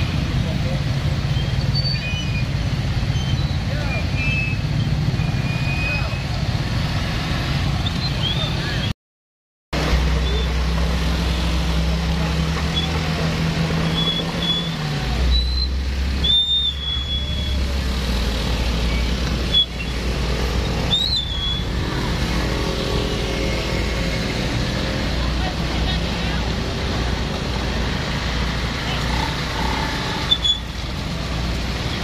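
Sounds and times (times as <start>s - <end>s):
motorcycle and car engines: 0.0s - 8.9s, 9.8s - 32.0s.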